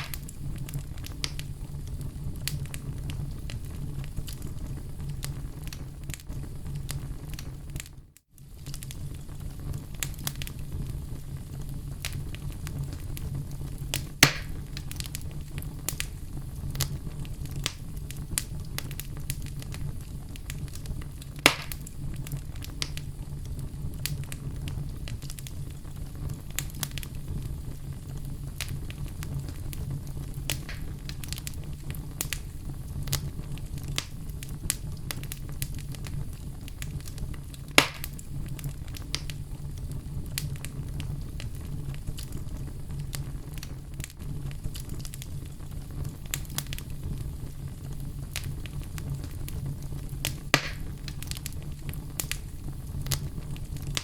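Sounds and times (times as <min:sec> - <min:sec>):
low rumble of fire: 0:00.0 - 0:54.0
sharp pops of fire: 0:00.0 - 0:54.0
wood fire crackling: 0:00.0 - 0:54.0.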